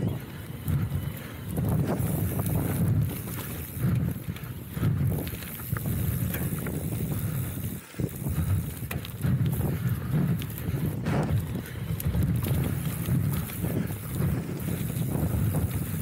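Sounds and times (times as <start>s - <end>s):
bike knocking and rattling: 0.0s - 16.0s
bike tyres rumbling on dirt: 0.0s - 16.0s.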